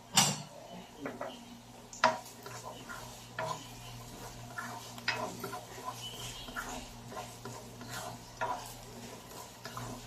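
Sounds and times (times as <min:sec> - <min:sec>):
oil sizzling: 0:00.0 - 0:10.0
spatula scraping wok: 0:01.0 - 0:10.0
spatula tapping pan: 0:01.0 - 0:10.0.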